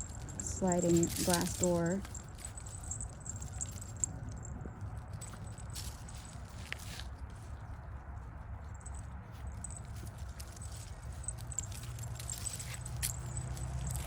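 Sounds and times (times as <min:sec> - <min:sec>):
paws rustling over dry leaves: 0:00.0 - 0:14.0.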